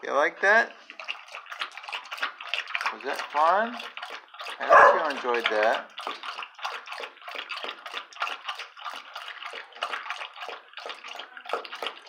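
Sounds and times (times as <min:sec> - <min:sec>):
dog lapping water from metal bowl: 0:00.4 - 0:12.0.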